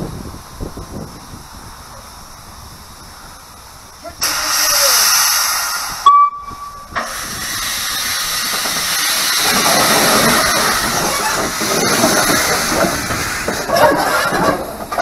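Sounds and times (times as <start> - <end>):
steam hissing: 0.0 - 15.0
steam locomotive moving slowly: 0.0 - 15.0.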